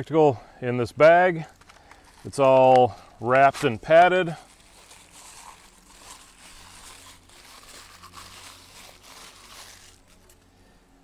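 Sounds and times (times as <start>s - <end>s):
plastic wrapping crinkling: 1.5s - 10.4s.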